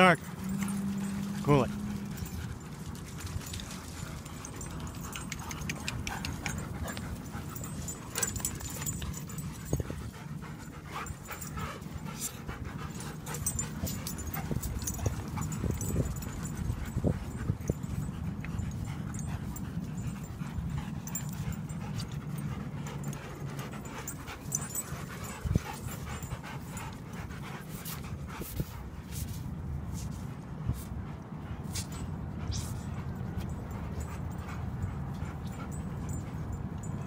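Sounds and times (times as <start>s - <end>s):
dogs panting: 0.0s - 37.0s
steady low rumble: 0.0s - 37.0s.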